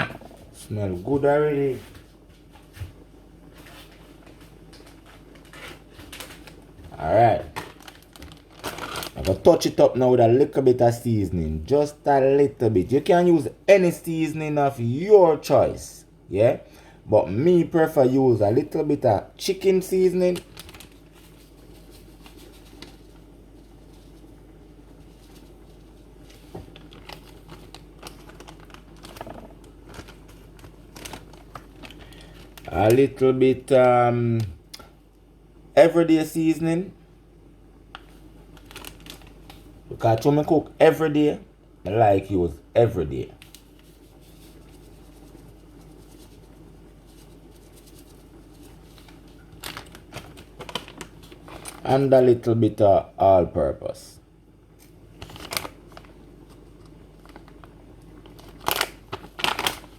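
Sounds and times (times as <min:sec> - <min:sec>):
faint kitchen background noise: 0:00.0 - 0:59.9
low steady hum: 0:00.0 - 0:59.9.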